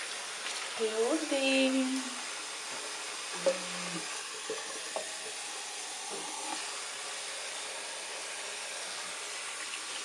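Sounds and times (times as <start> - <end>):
soap suds fizzing in sink: 0.0 - 10.0.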